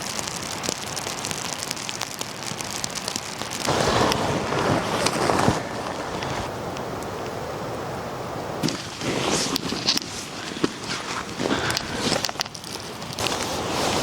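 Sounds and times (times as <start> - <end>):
rain drops ticking: 0.0 - 14.0.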